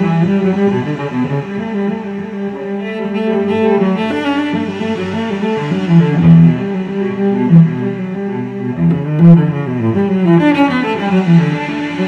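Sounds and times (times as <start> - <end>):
low background music: 0.0 - 12.0.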